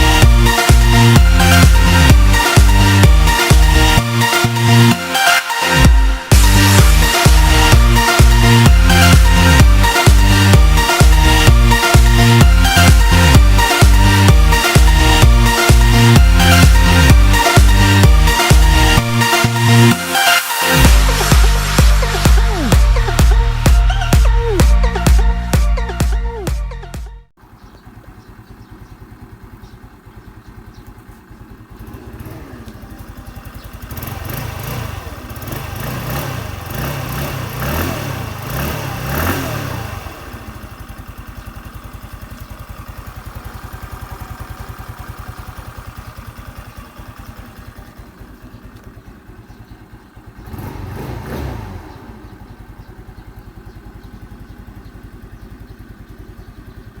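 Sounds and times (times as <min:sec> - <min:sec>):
scooter engine idling and revving: 0:00.0 - 0:57.0.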